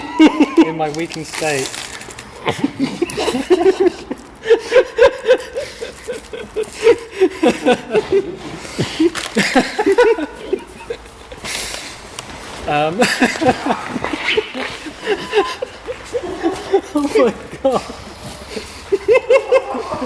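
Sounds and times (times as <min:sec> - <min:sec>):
people laughing: 0:00.0 - 0:20.0.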